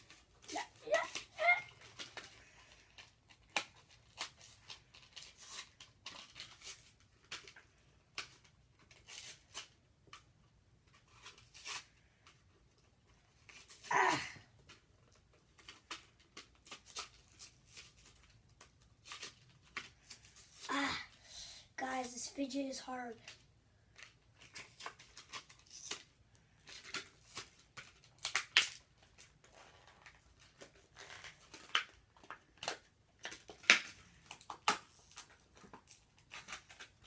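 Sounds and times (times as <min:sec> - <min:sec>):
plastic packaging crinkling and tearing: 0:00.0 - 0:09.8, 0:10.8 - 0:20.9, 0:21.8 - 0:37.0.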